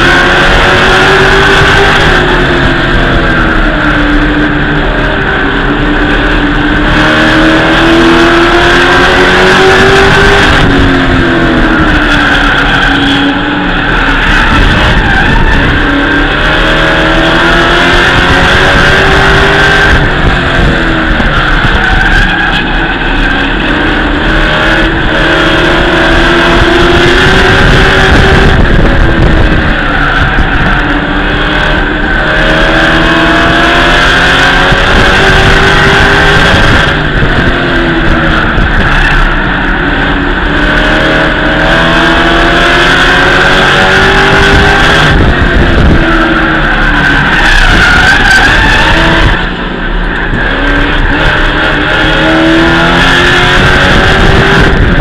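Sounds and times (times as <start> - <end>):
race truck engine revving: 0.0 - 55.0.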